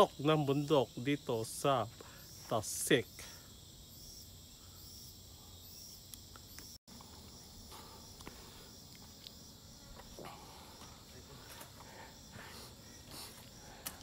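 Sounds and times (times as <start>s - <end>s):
insects buzzing and chirping: 0.0s - 14.0s.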